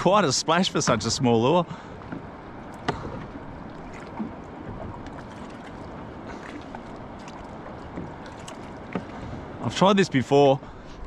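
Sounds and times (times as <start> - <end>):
water washing around a boat: 0.0 - 11.0
wind: 0.0 - 11.0.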